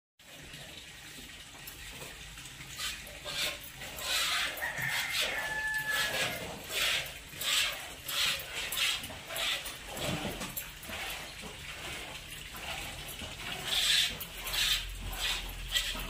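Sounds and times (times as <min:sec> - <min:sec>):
milk squirting into pail: 0:01.1 - 0:16.0.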